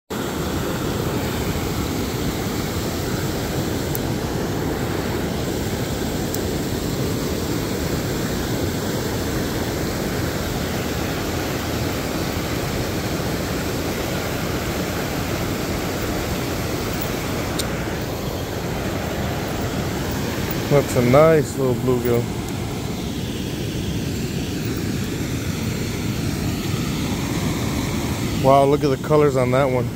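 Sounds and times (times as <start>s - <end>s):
river rushing over rocks: 0.2s - 29.8s.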